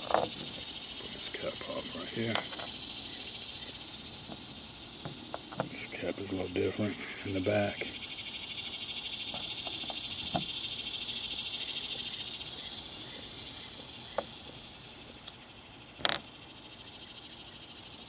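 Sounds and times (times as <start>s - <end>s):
insect-like chirring: 0.0s - 18.0s.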